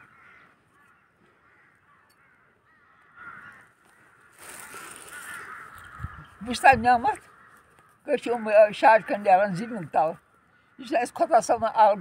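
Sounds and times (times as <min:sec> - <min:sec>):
faint crows cawing: 0:00.0 - 0:12.0.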